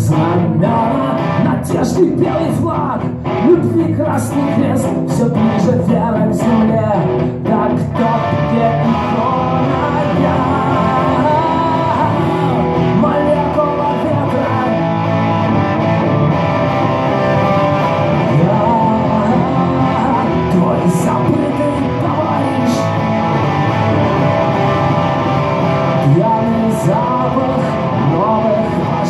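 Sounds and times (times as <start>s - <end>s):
rock song with guitars: 0.0s - 29.0s
wavering guitar lead line: 0.0s - 29.0s.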